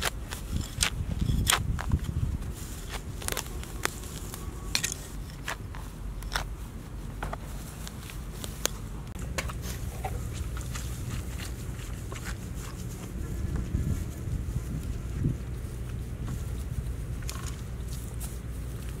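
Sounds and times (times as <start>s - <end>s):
grass tearing from dry soil: 0.0s - 19.0s
low steady rumble: 0.0s - 19.0s.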